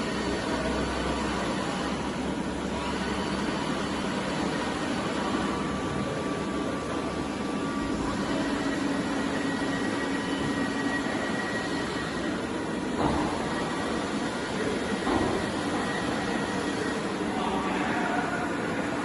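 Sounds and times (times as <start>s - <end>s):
faint motor whines: 0.0s - 19.0s
machine mechanical hum: 0.0s - 19.0s.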